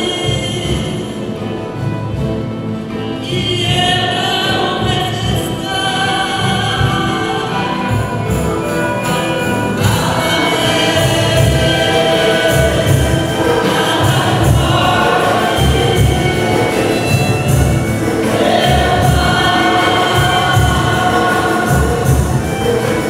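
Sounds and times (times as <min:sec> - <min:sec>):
woman singing a hymn: 0:00.0 - 0:01.2, 0:03.2 - 0:08.4, 0:09.1 - 0:23.0
acoustic guitar: 0:00.0 - 0:23.0
voices singing along: 0:03.2 - 0:23.0.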